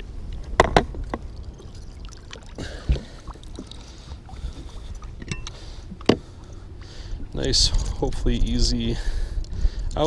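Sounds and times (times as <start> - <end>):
water sloshing against boat hull: 0.0 - 8.4.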